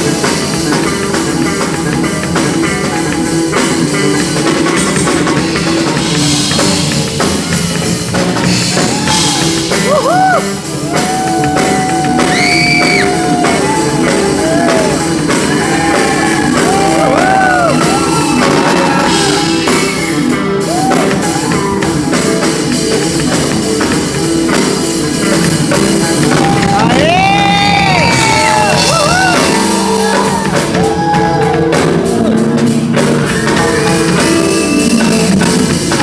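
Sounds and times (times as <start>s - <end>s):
loud backing music: 0.0s - 36.0s.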